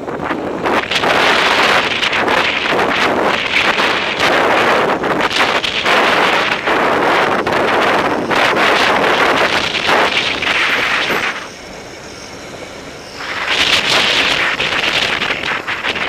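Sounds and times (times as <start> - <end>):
road noise: 0.0 - 16.0
wind rushing over microphone: 0.0 - 16.0.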